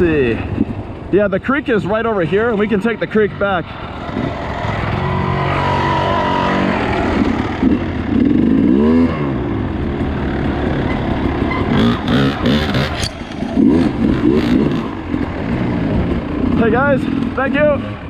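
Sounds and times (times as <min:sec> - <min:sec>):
dirt bike engine revving: 0:02.5 - 0:18.0.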